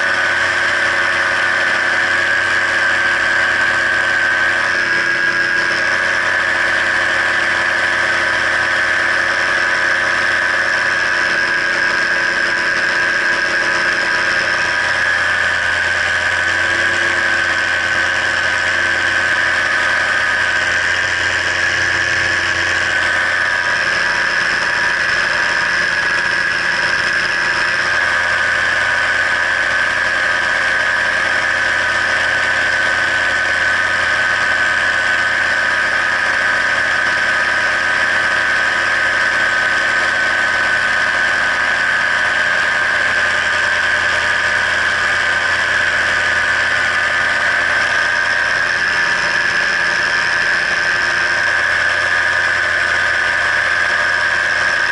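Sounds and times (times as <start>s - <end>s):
paramotor engine drone: 0.0s - 54.9s.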